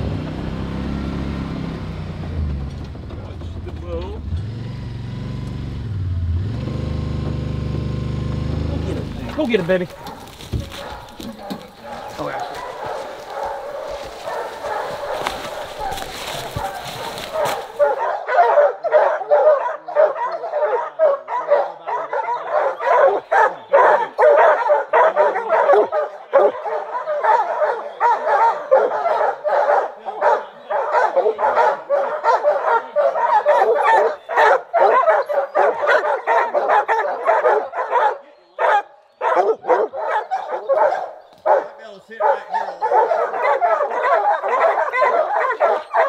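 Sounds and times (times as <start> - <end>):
hounds barking and baying: 6.4 - 46.0.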